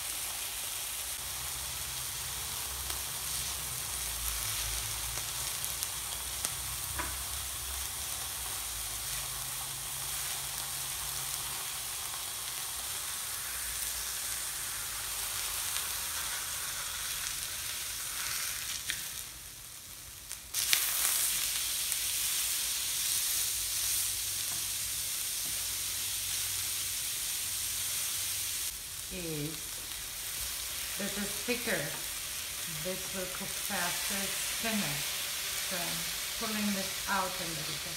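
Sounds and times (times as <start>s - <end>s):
steak sizzling on hot plate: 0.0s - 37.9s.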